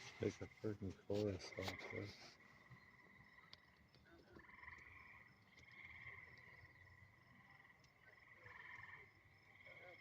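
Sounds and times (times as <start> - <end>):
frogs trilling: 0.0 - 10.0.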